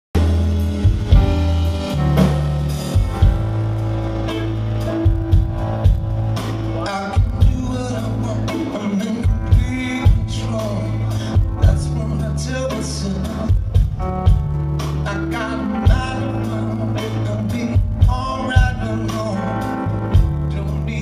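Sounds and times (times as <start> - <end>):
deep bass line: 0.1 - 21.0
live band music: 0.1 - 21.0.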